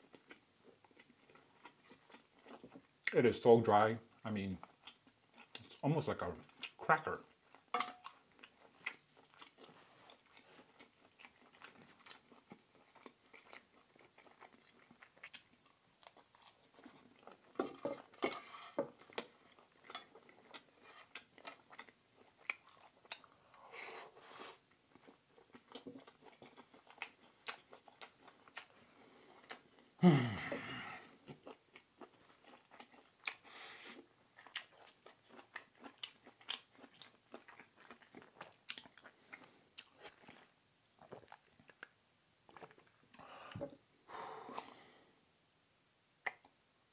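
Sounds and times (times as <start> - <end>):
chewing with light crunches: 0.0 - 23.6, 24.4 - 30.0, 31.0 - 43.8.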